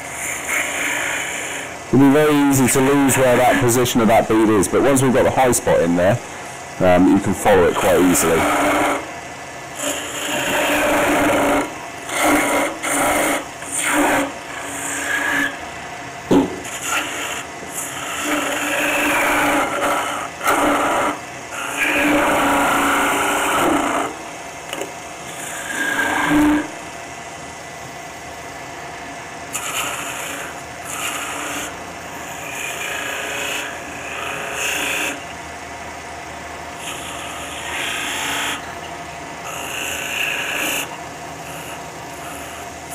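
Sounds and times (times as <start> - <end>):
tool shaving wood on lathe: 0.0 - 6.2, 6.8 - 9.1, 9.8 - 15.7, 16.6 - 24.1, 25.2 - 26.7, 29.5 - 35.3, 36.7 - 38.7, 39.4 - 42.9
lathe humming: 0.0 - 42.9.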